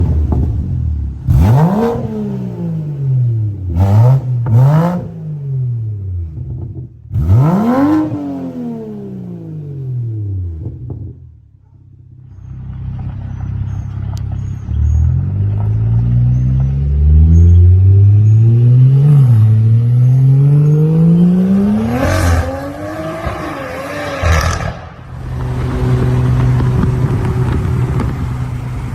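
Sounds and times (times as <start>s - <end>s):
car accelerating: 0.0s - 11.2s, 12.4s - 28.9s
car engine revving and idling: 0.0s - 28.9s.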